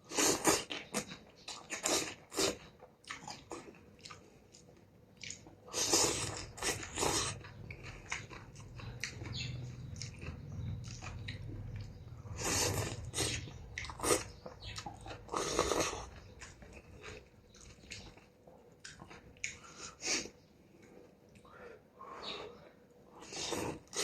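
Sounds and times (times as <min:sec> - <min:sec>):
person chewing noodle soup: 0:00.0 - 0:21.5, 0:22.7 - 0:24.0.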